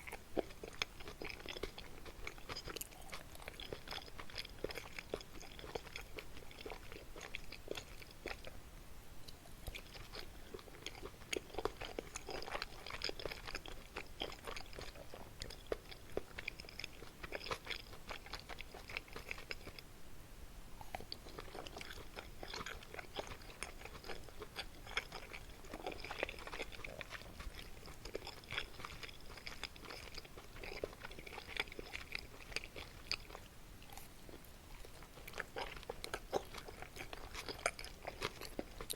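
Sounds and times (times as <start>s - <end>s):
close-miked chewing: 0.0s - 8.6s, 9.3s - 19.9s, 20.8s - 38.9s.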